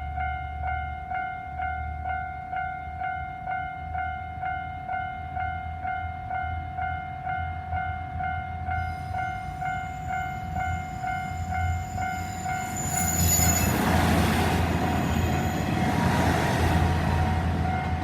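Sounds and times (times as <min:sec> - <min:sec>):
diesel railcar passing: 0:00.0 - 0:18.0
level-crossing alarm ringing: 0:03.1 - 0:18.0.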